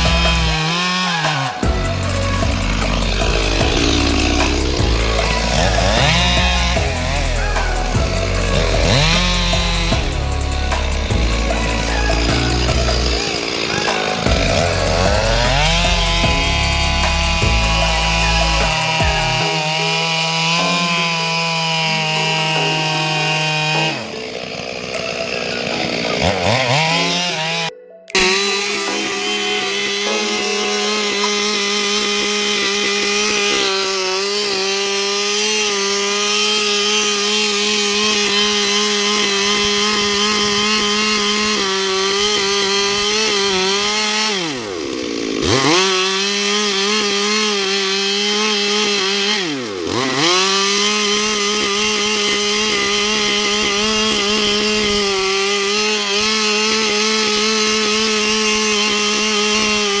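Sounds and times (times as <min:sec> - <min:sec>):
chainsaw cutting wood: 0:00.0 - 1:00.0.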